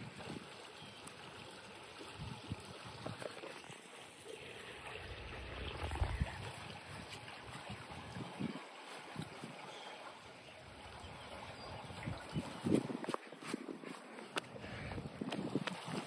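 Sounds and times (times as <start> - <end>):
creek water trickling: 0.0 - 16.0.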